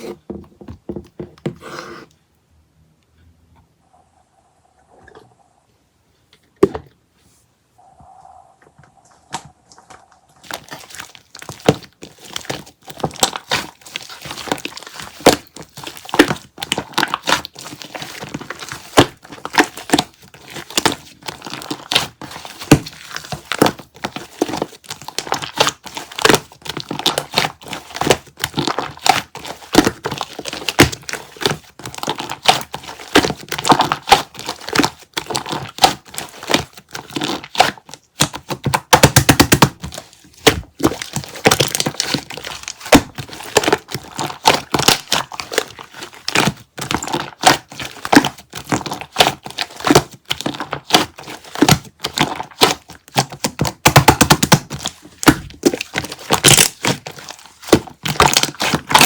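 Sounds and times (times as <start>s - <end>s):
crinkling and crackling: 7.8s - 59.0s.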